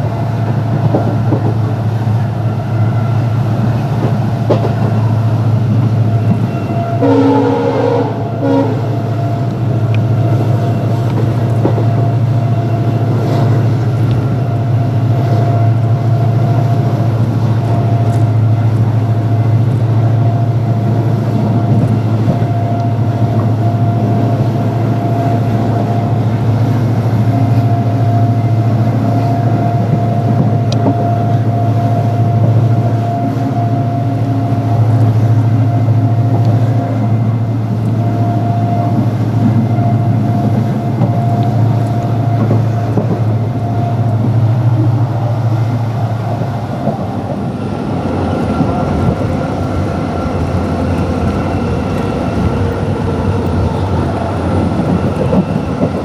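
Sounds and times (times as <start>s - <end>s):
train running heard from aboard: 0.0s - 56.0s.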